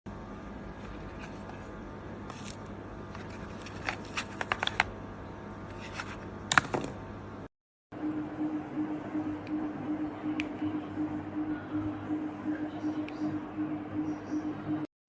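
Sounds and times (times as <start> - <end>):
low hum and hiss: 0.1 - 14.9.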